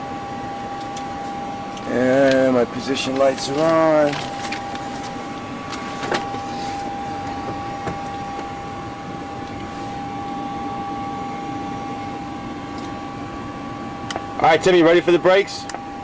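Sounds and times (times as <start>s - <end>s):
aircraft systems high whine: 0.0s - 16.0s.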